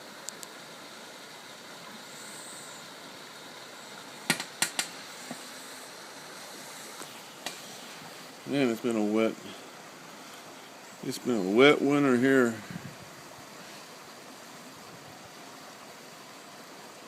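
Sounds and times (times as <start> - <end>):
floodwater rushing in creek: 0.0 - 17.0.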